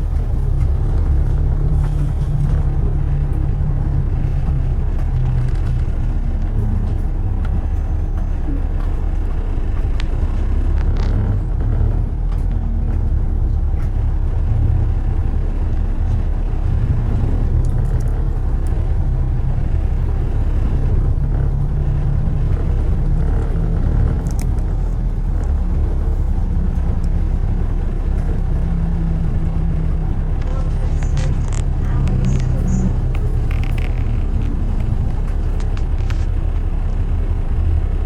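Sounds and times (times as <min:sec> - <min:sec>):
car engine and tyre road noise: 0:00.0 - 0:38.0.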